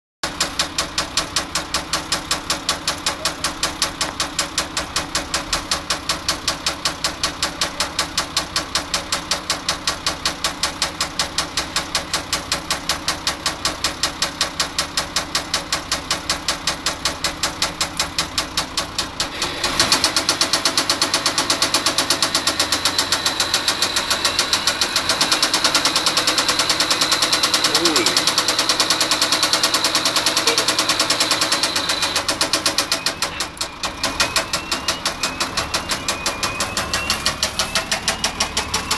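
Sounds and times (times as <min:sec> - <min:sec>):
forklift engine knocking: 0:00.2 - 0:38.9.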